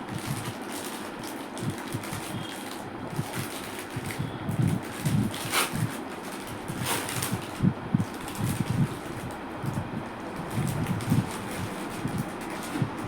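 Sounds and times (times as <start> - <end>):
packaging rustles: 0.0 - 13.0.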